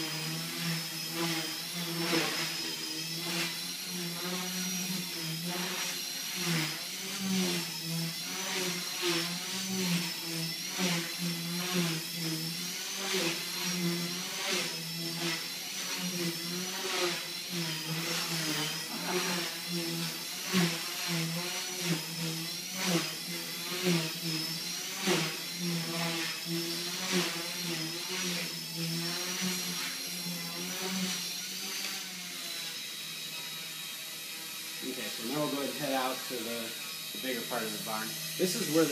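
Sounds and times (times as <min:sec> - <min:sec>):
rc helicopter motors whining: 0:00.0 - 0:38.9
rotor blades buzzing: 0:00.0 - 0:38.9.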